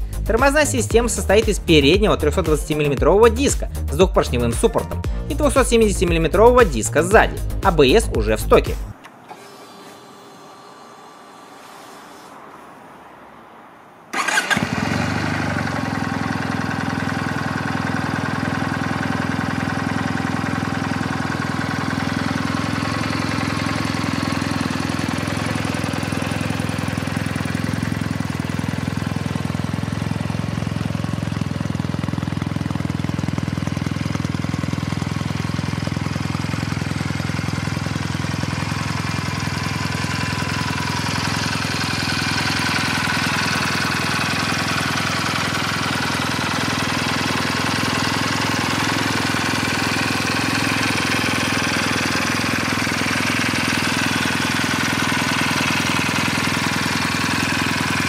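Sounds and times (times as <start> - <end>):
motorcycle engine idling: 0.0 - 12.3, 14.1 - 58.0.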